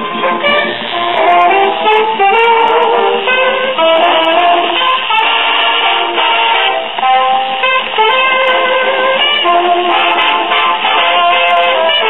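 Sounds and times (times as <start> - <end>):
old record music through radio speaker: 0.0 - 12.0.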